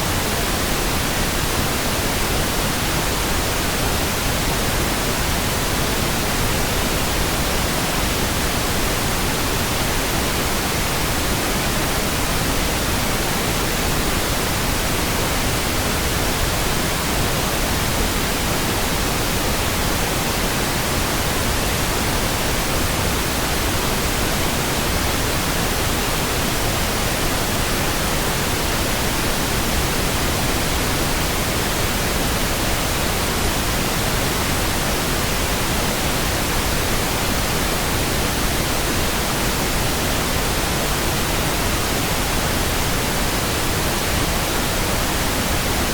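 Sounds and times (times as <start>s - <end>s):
pink noise hiss: 0.0s - 45.9s.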